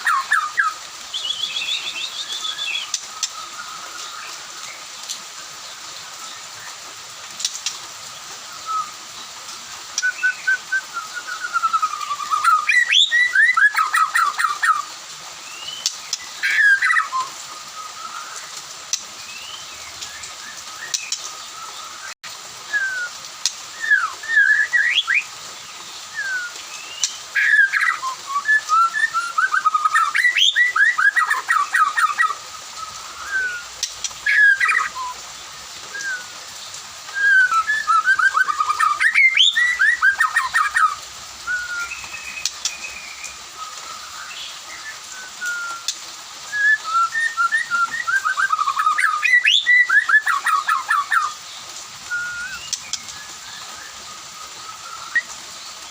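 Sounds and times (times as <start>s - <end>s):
songbird singing whistled phrases: 0.0s - 4.4s, 8.5s - 9.3s, 9.9s - 25.3s, 26.0s - 35.2s, 35.9s - 36.4s, 37.1s - 51.4s, 52.0s - 55.4s.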